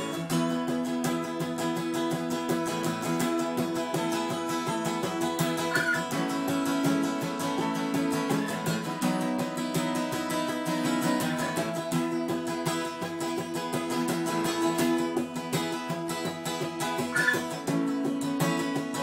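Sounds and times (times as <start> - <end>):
acoustic guitars strumming: 0.0 - 19.0.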